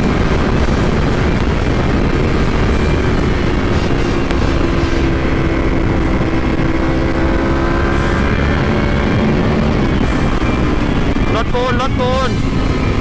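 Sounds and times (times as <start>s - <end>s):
heavy wind rush: 0.0s - 13.0s.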